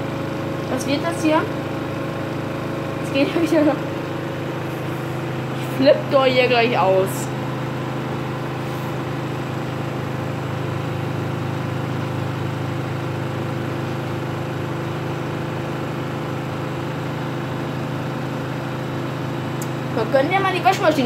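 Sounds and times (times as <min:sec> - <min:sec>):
washing machine spin hum: 0:00.0 - 0:21.0.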